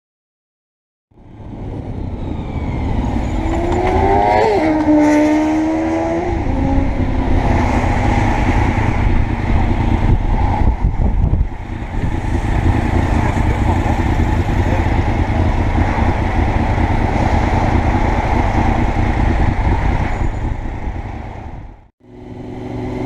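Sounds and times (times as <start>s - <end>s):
motorcycle engine at speed: 1.1s - 23.0s
heavy wind rush: 1.2s - 21.9s.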